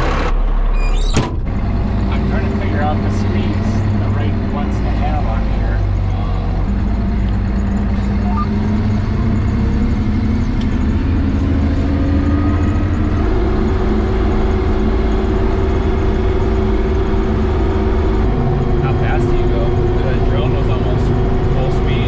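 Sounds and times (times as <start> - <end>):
engine rumble heard from cab: 0.0 - 22.0.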